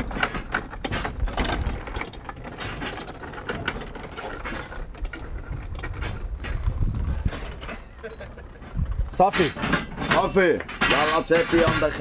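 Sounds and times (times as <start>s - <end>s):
trolley frame rattling: 0.0s - 12.0s
trolley wheels rumbling on pavement: 0.0s - 12.0s.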